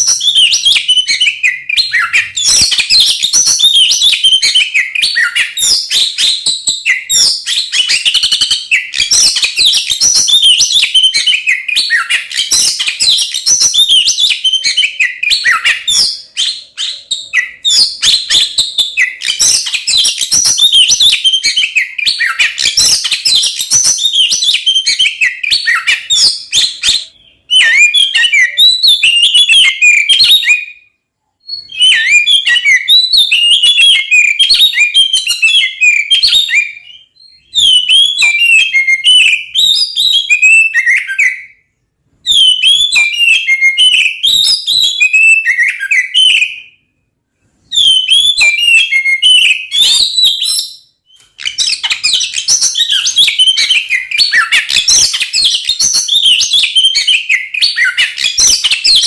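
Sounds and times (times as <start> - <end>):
bird singing whistles and chatter: 0.0 - 30.8, 31.4 - 41.5, 47.7 - 59.0.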